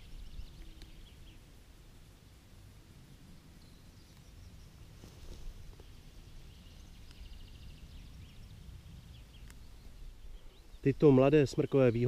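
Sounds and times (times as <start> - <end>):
small birds chirping: 0.0 - 1.6, 3.3 - 12.0
low wind rumble: 0.0 - 12.0.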